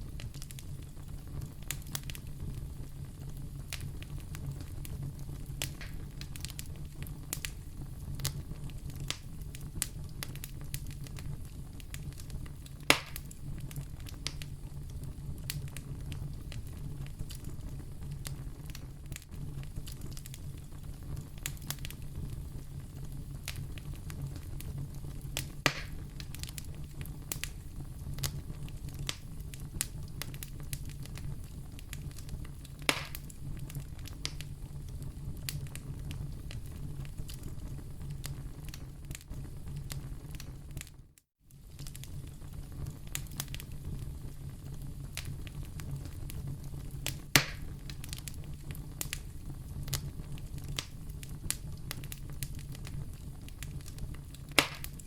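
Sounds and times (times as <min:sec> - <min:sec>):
loud fire pops: 0:00.0 - 0:40.9, 0:41.6 - 0:55.0
fire crackling: 0:00.0 - 0:55.0
fire flames rumbling: 0:00.0 - 0:55.0.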